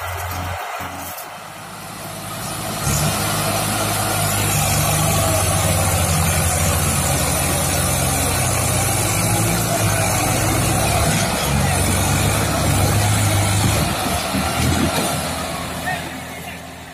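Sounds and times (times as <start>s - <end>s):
diesel tractor engines under load: 0.0s - 16.9s.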